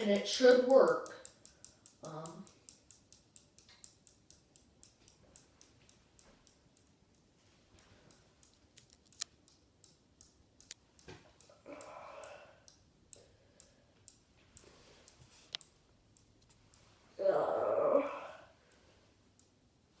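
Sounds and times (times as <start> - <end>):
light regular clicks: 0.0 - 17.0, 18.6 - 19.6
ceiling fan running: 0.0 - 20.0.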